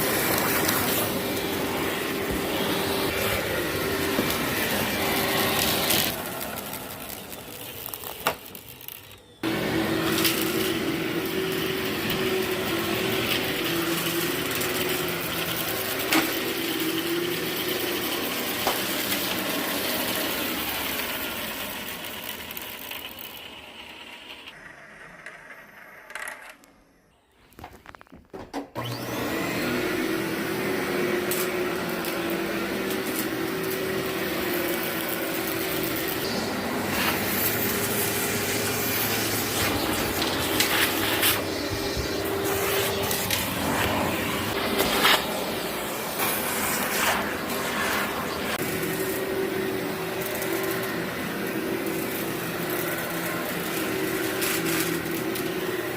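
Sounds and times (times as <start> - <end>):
debris crackling in vacuum: 0.0 - 23.3, 30.4 - 55.9
vacuum cleaner motor hum: 0.0 - 25.6, 28.8 - 55.9.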